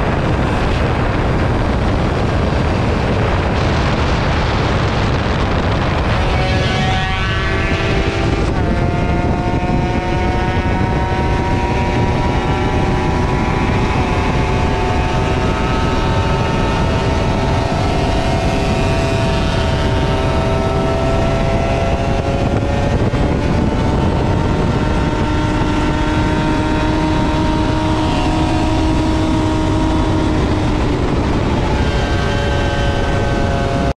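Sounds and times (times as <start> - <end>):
motorcycle engine running: 0.0 - 33.9
wind rush on microphone: 0.0 - 33.9.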